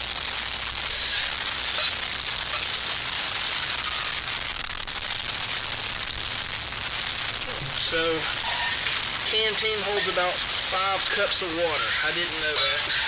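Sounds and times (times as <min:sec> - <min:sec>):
camp fire crackling: 0:00.0 - 0:13.0
stoves hissing: 0:00.0 - 0:13.0.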